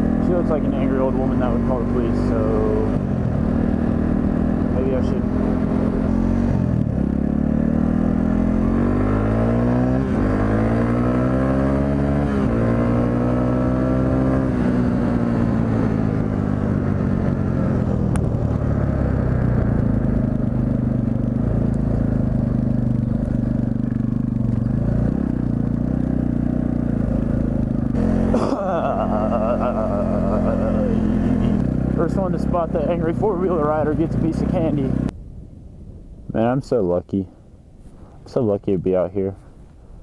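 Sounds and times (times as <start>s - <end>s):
dirt bike engine accelerating: 0.0s - 35.1s.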